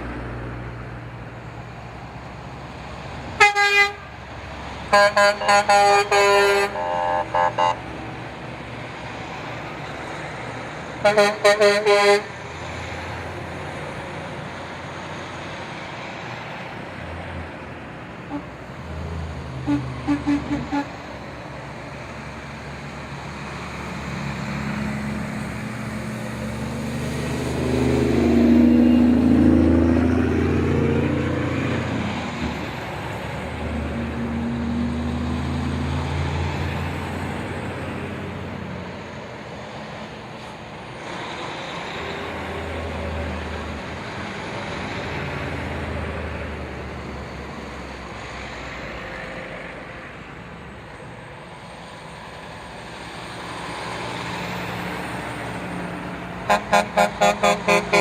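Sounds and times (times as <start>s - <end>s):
trucks driving past: 0.0s - 58.0s.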